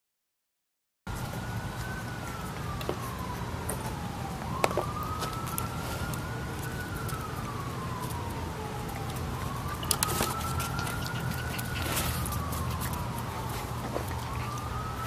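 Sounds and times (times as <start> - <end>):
emergency siren wailing: 1.1 - 15.0.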